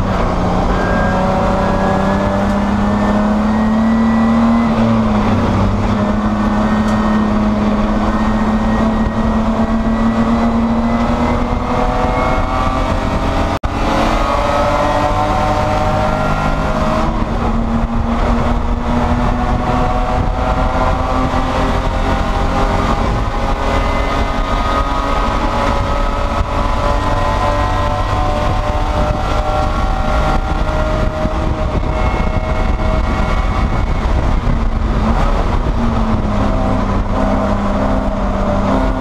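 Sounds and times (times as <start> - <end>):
race car engine revving: 0.0 - 39.0.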